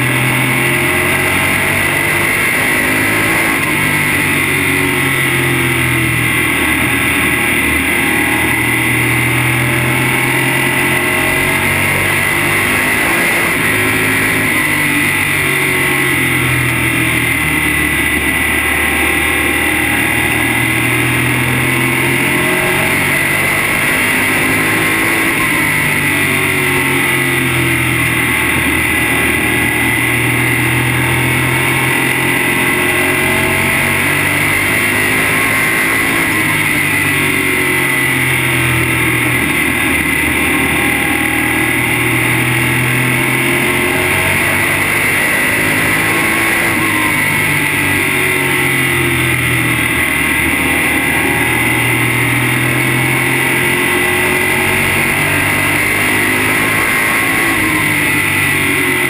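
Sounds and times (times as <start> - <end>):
race car engine revving: 0.0 - 59.0
steady high whine: 0.0 - 59.0.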